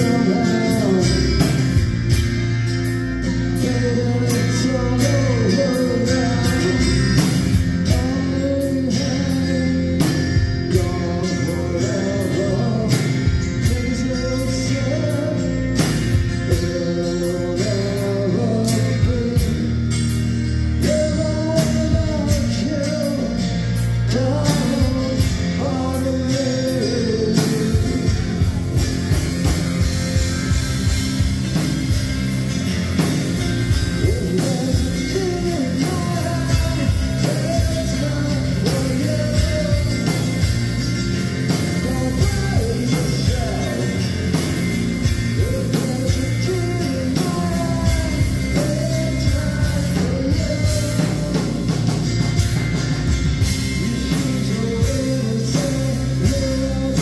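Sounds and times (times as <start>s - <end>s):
person singing: 0.0s - 2.0s, 3.4s - 19.9s, 20.8s - 29.1s, 33.6s - 52.0s, 53.6s - 57.0s
drums steady beat: 0.0s - 57.0s
keyboards: 0.0s - 57.0s
strummed acoustic guitar: 0.0s - 57.0s.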